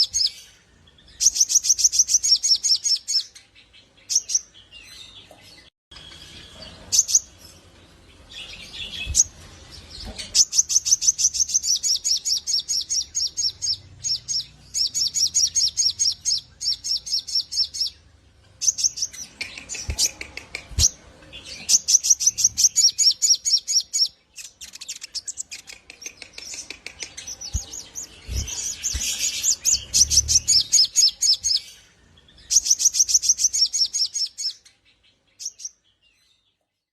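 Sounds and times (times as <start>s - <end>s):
bird singing rattling trills: 5.9s - 36.1s.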